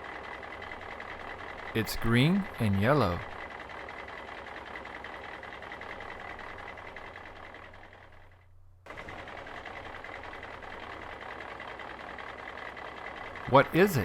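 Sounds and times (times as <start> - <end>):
construction machine engine running: 0.0 - 14.0.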